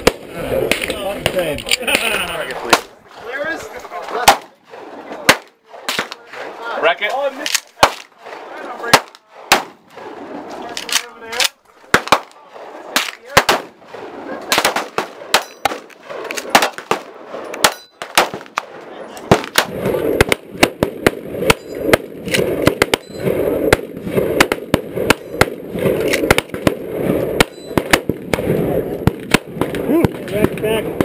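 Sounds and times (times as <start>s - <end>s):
gunshots on a shooting range: 0.0s - 3.0s, 4.1s - 6.6s, 7.4s - 31.0s.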